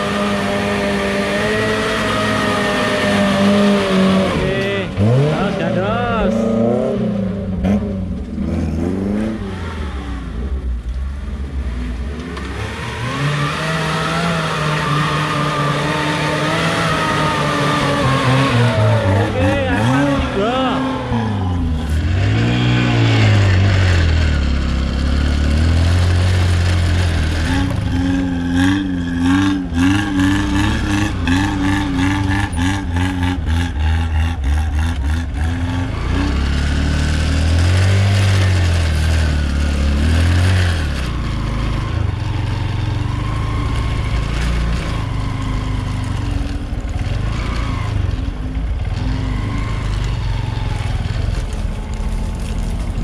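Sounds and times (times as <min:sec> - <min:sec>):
off-road engine revving: 0:00.0 - 0:53.0.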